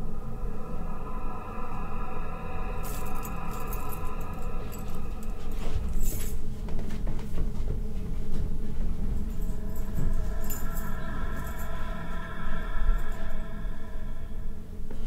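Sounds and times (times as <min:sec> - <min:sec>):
suspense film score drone: 0:00.0 - 0:15.0.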